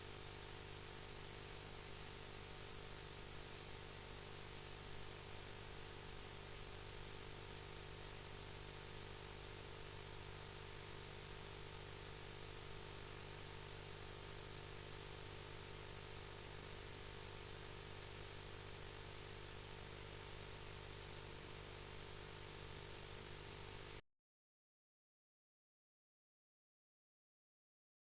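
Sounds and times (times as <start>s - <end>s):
faint hiss: 0.0s - 24.0s
low electrical hum: 0.0s - 24.0s.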